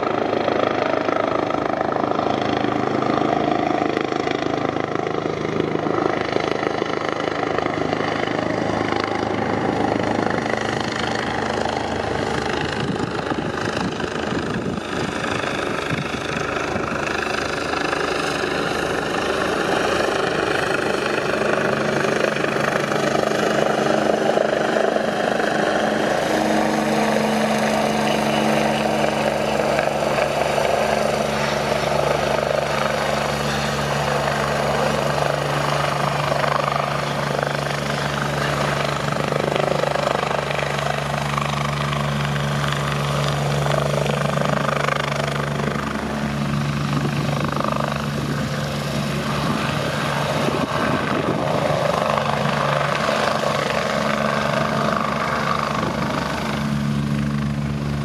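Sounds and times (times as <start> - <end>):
helicopter hovering: 0.0 - 58.0.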